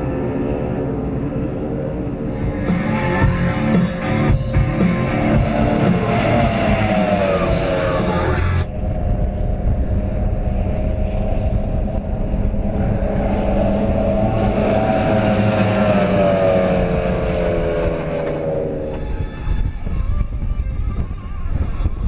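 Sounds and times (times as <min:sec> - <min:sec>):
powerboat engines at speed: 0:00.0 - 0:22.0.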